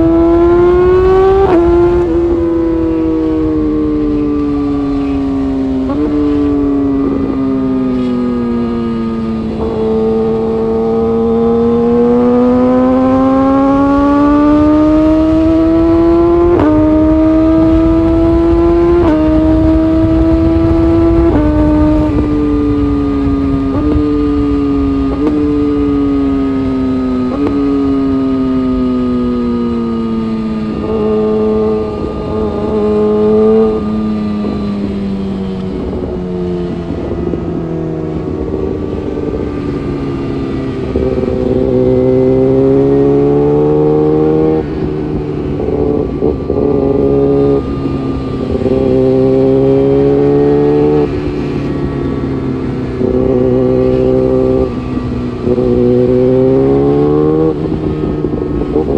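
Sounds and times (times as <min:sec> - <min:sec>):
low wind rumble: 0:00.0 - 0:58.9
motorcycle engine revving: 0:00.0 - 0:58.9.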